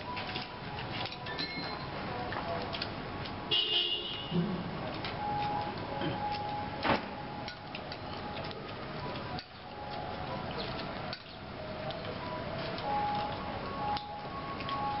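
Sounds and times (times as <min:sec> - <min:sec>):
city background noise: 0:00.0 - 0:15.0.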